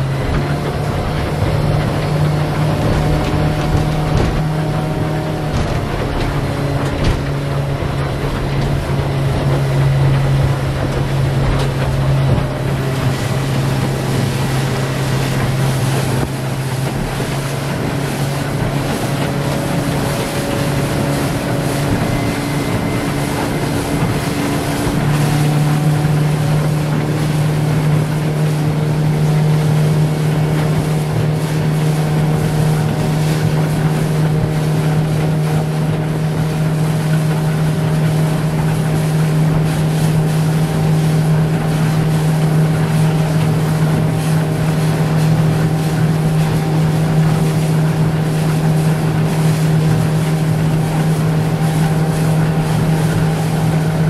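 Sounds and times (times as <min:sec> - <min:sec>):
motorboat engine running: 0:00.0 - 0:54.0
water rushing past hull: 0:00.0 - 0:54.0
wind buffeting microphone: 0:00.0 - 0:54.0.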